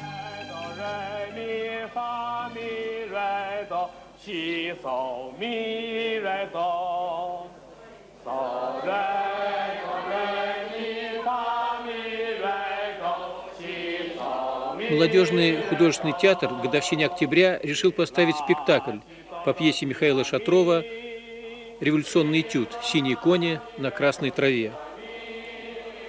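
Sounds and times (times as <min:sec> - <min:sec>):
person singing chant-like melody: 0:00.0 - 0:26.0.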